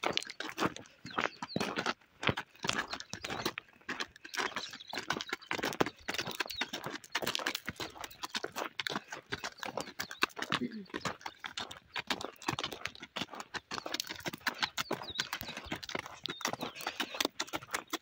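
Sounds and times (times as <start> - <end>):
hooves and footsteps on gravel: 0.0 - 18.0.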